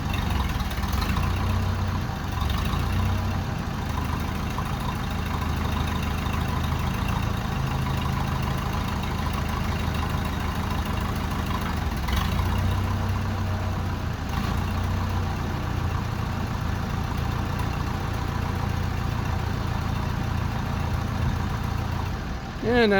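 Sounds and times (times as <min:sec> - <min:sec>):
backhoe engine running: 0:00.0 - 0:22.9.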